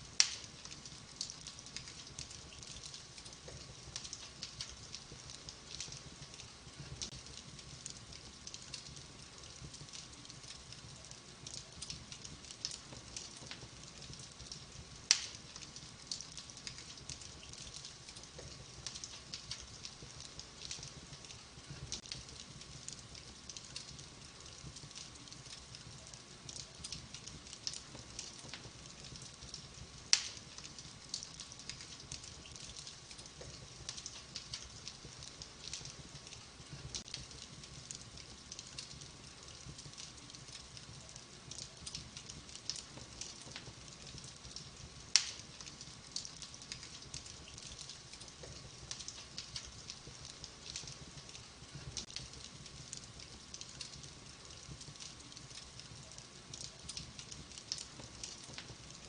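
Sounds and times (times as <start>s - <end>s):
wood fire crackling: 0.0s - 59.0s
loud fire pops: 0.1s - 10.7s, 11.4s - 40.9s, 41.5s - 55.9s.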